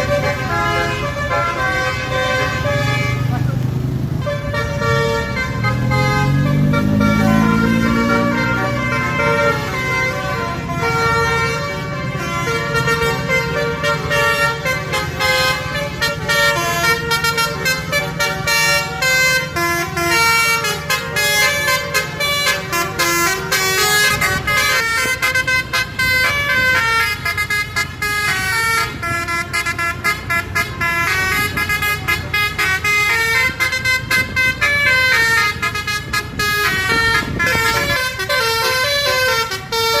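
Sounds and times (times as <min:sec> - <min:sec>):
bus musical air horn melody: 0:00.0 - 0:40.0.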